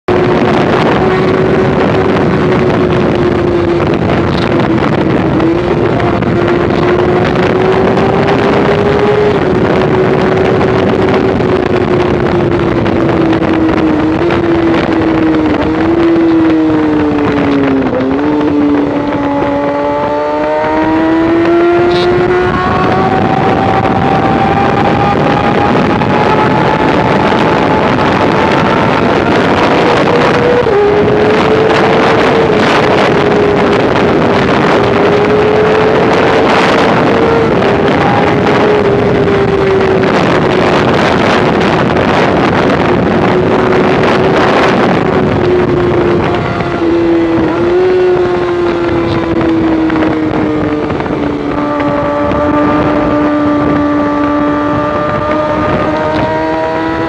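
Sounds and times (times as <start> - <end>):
motorcycle engine revving high: 0.0 - 57.0
wind rush: 0.0 - 57.0.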